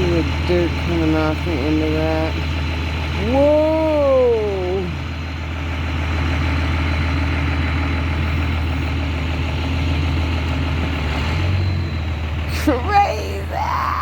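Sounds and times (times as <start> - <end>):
heavy truck engine running: 0.0 - 14.0.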